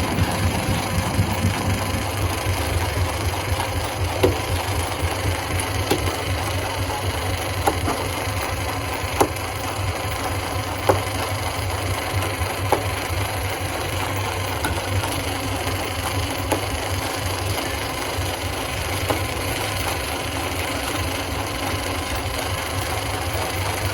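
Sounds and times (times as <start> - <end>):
stone crusher humming: 0.0 - 23.9.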